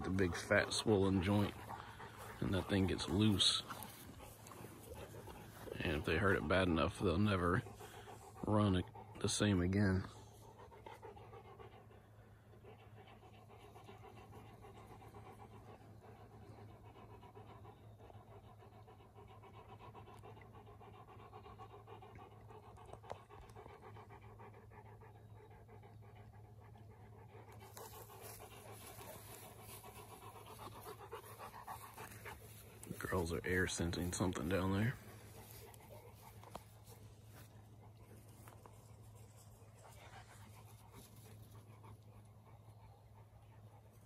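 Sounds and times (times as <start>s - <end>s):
dog panting: 0.0s - 44.0s.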